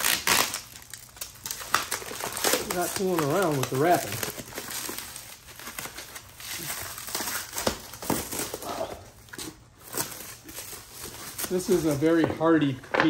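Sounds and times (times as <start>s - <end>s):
packaging wrap crinkling: 0.0s - 13.0s.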